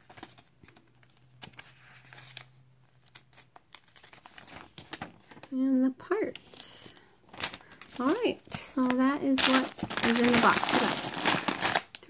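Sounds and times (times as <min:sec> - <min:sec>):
paper pages flipping: 0:00.0 - 0:05.5, 0:07.3 - 0:12.0.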